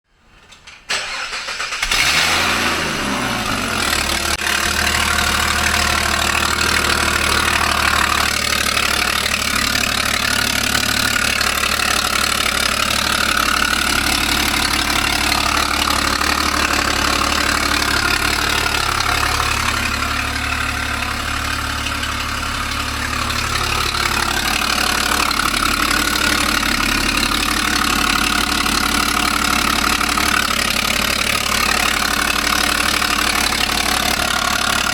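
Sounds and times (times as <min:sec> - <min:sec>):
car engine idling: 0:01.0 - 0:34.9.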